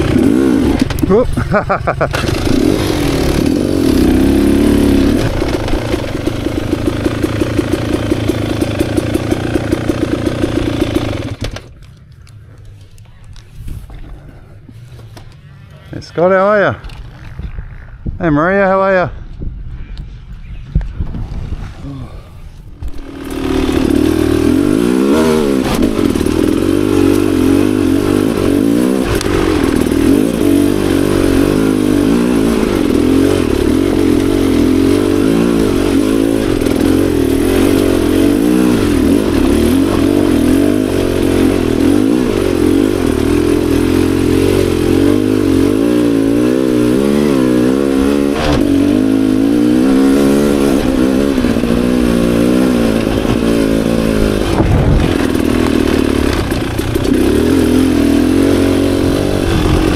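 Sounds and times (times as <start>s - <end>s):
dirt bike engine revving: 0.0s - 11.7s, 22.8s - 59.9s.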